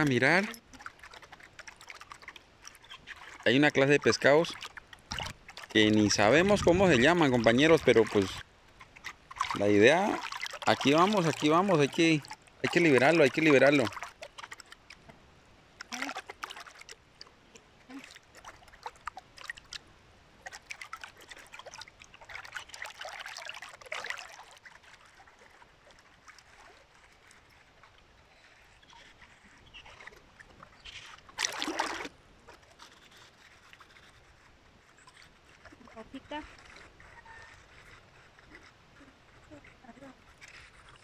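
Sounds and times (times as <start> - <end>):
river water splashing: 0.0 - 41.0.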